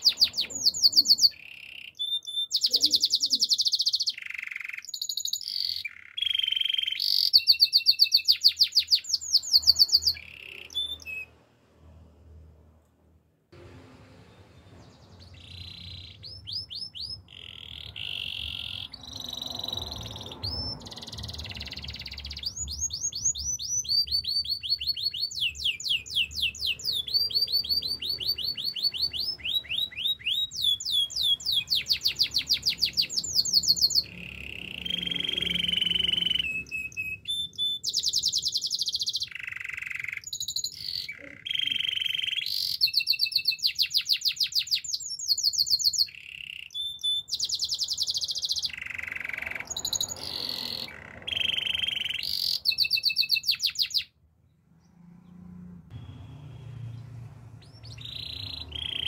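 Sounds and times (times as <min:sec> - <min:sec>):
canary singing trills: 0:00.0 - 0:11.4, 0:14.7 - 0:54.2, 0:54.8 - 0:59.0.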